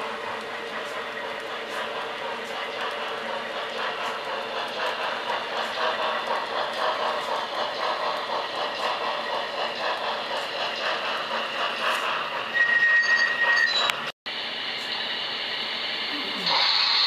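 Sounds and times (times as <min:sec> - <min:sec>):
model train rolling: 0:00.0 - 0:17.0.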